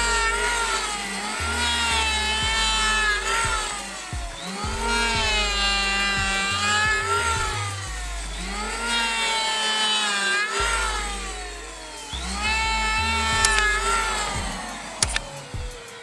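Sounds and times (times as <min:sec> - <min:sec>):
electric planer planing wood: 0:00.0 - 0:16.0.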